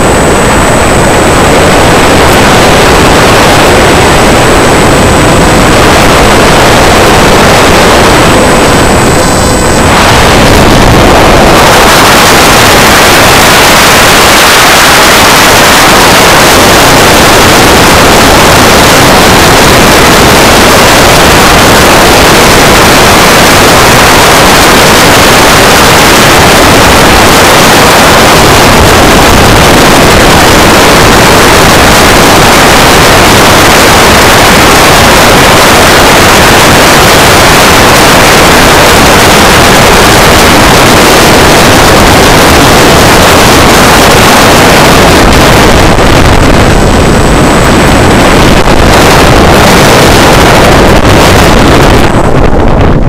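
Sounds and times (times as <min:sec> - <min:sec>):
wind and propeller noise: 0:00.0 - 0:53.0.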